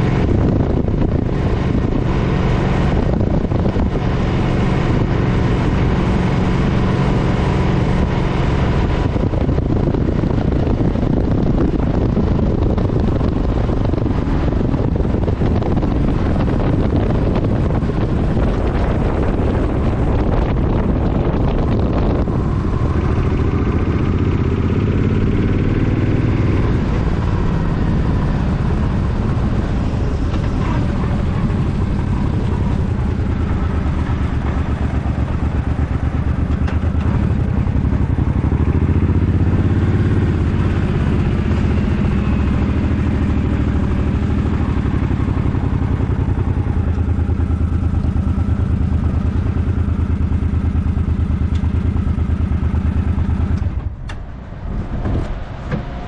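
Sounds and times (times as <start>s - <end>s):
motorcycle engine running: 0.0s - 55.3s.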